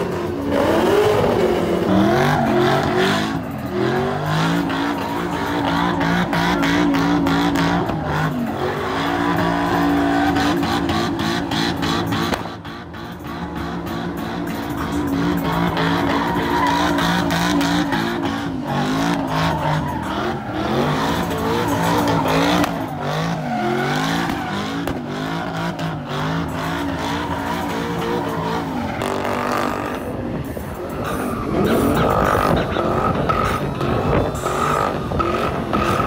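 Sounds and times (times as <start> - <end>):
car engine revving hard: 0.0 - 36.0
tyres squealing on asphalt: 0.0 - 36.0.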